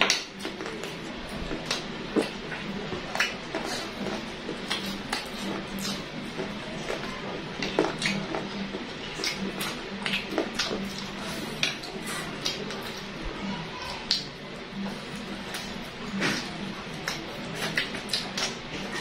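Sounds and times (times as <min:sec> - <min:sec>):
chewing and lip smacks: 0:00.0 - 0:13.2, 0:13.8 - 0:19.0.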